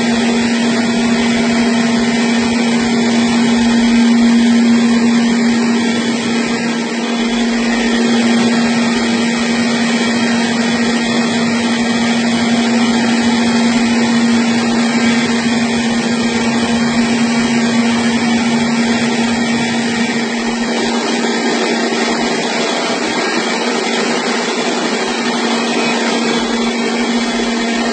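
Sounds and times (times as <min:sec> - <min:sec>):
rice milling machine running: 0:00.0 - 0:27.9.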